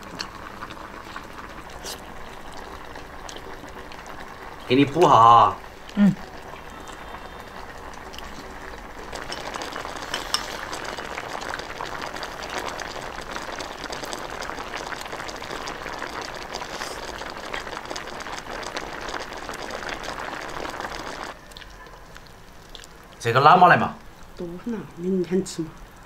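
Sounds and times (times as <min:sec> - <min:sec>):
stew bubbling in a pot: 0:00.0 - 0:26.0.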